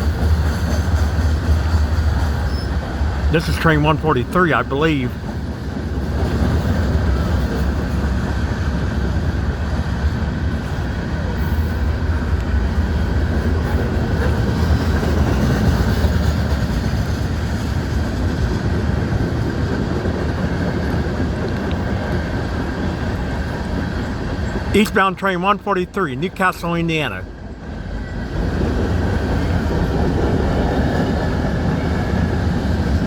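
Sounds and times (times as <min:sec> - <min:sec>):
freight train wheels rumbling: 0:00.0 - 0:25.0, 0:27.0 - 0:33.0.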